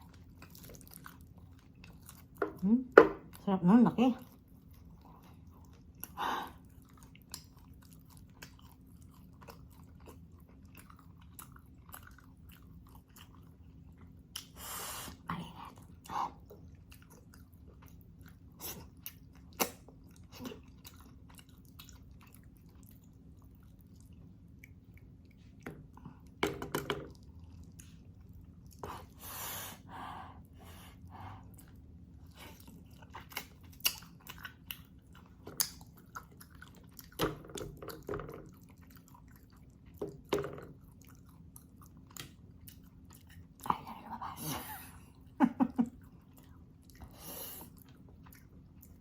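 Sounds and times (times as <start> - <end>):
wet chewing with lip smacks: 0.0 - 3.5, 4.2 - 26.4, 27.1 - 29.9, 30.8 - 43.8, 45.0 - 49.0
faint low hum: 0.0 - 49.0.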